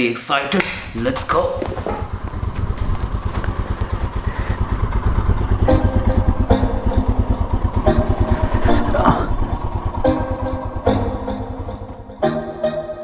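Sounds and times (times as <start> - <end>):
motorcycle engine throbbing: 0.8 - 13.0.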